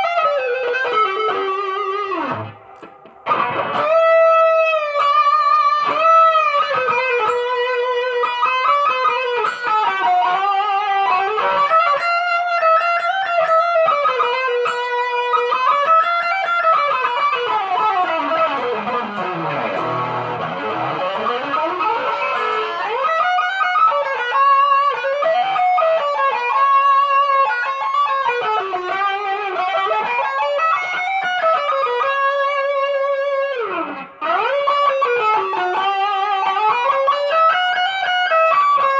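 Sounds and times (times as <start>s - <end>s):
electric guitar lead melody: 0.0s - 38.9s.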